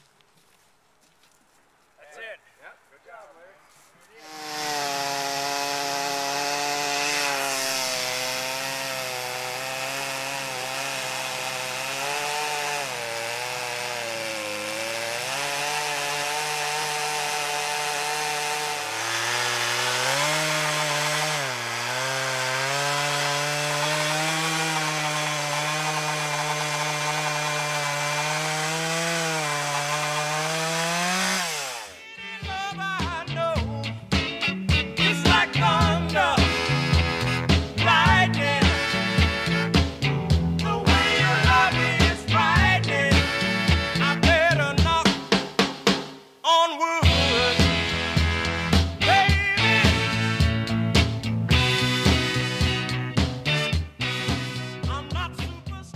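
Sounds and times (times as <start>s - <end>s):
chainsaw cutting log: 4.2s - 32.0s, 35.0s - 45.8s, 47.0s - 55.1s.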